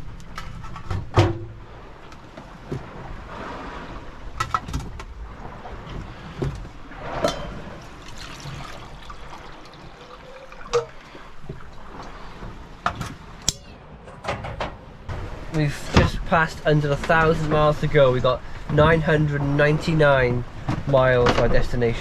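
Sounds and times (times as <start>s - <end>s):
water sloshing along hull: 0.0s - 22.0s.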